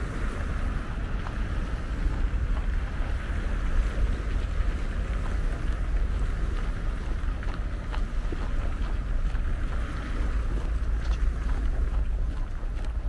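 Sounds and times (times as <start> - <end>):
road traffic: 0.0 - 13.0
wind buffeting the microphone: 0.0 - 13.0.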